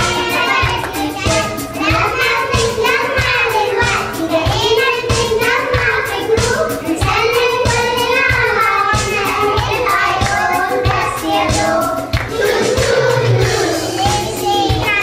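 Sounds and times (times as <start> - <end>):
children's choir singing: 0.0 - 15.0
music with steady beat: 0.0 - 15.0.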